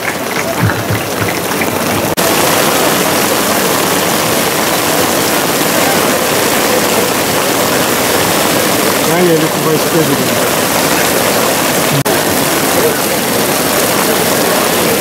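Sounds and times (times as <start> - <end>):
heavy rain on a tent roof: 0.0 - 15.0
water pouring off tent edge: 0.0 - 15.0.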